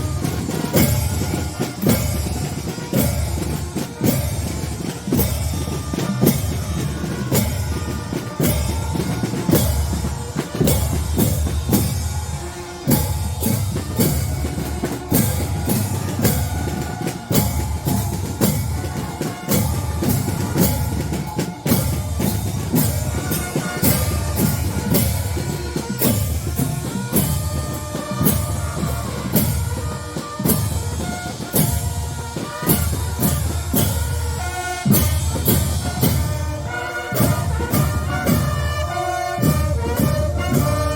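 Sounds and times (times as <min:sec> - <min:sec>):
band playing a march: 0:00.0 - 0:40.9
snare and bass drums: 0:00.0 - 0:40.9.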